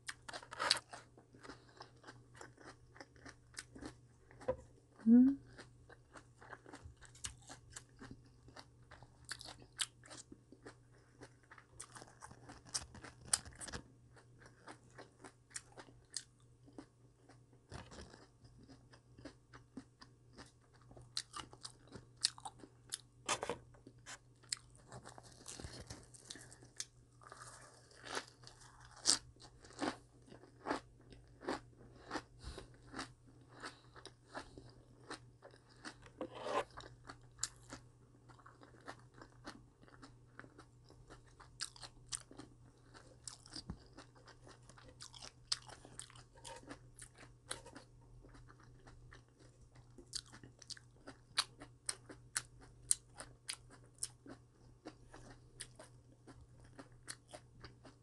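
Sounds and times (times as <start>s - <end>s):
person chewing crunchy vegetables: 0.0s - 58.0s.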